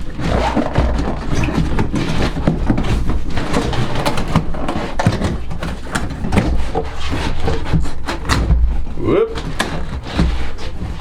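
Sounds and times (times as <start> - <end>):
cardboard box rustling and scraping: 0.0 - 11.0.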